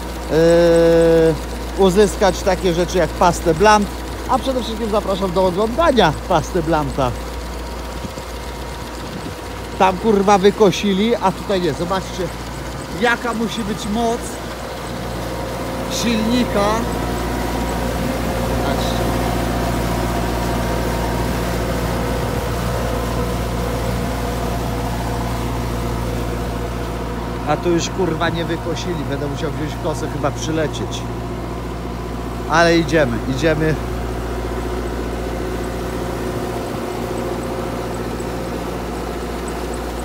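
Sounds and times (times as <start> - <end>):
boat engine running under load: 0.0 - 40.0
propeller wash churning: 0.0 - 40.0.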